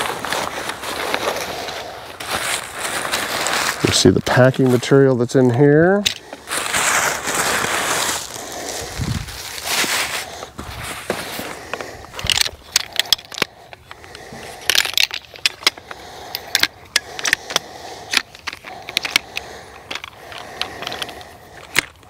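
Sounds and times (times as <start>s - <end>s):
packing rustling and crinkling: 0.0s - 22.0s.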